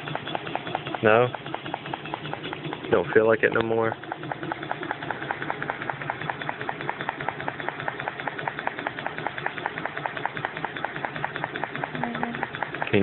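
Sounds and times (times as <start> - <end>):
machine humming and pulsing: 0.0 - 13.0.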